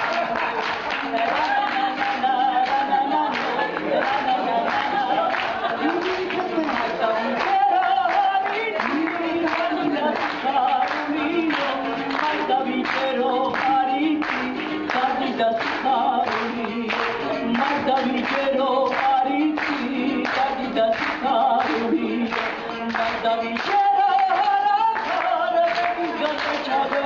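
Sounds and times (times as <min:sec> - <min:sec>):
group of voices singing: 0:00.0 - 0:27.0
plucked lute: 0:00.0 - 0:27.0
rhythmic hand-clapping: 0:00.0 - 0:27.0.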